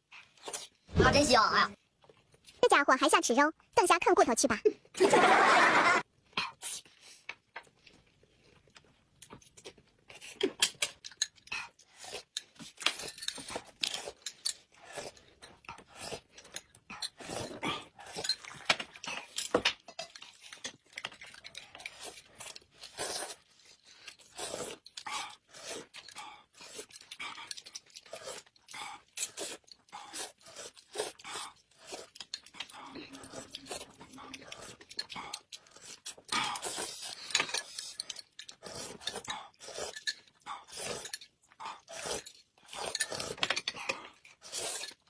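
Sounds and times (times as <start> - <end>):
chewing and slurping: 6.2 - 45.0.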